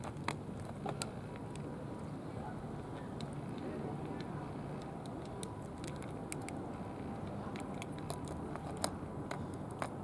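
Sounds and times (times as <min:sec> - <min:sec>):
cats chewing and crunching: 0:00.0 - 0:10.0
low background noise: 0:00.0 - 0:10.0.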